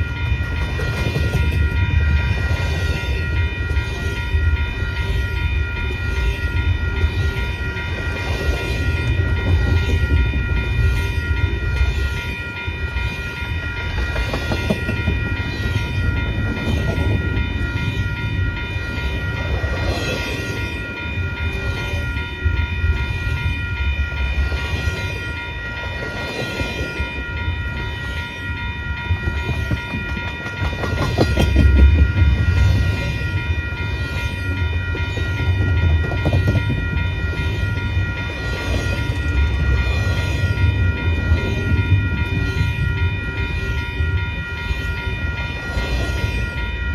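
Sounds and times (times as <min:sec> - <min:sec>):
freight train rumble: 0:00.0 - 0:46.9
high-pitched ringing tones: 0:00.0 - 0:46.9.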